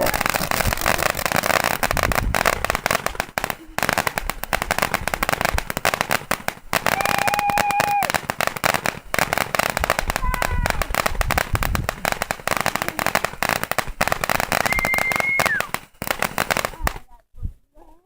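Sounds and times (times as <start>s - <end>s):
firecrackers popping: 0.0s - 17.1s.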